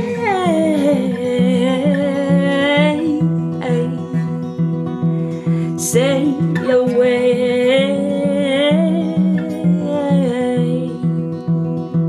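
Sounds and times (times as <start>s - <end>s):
acoustic guitar strumming: 0.0s - 12.0s
woman singing: 0.0s - 12.0s.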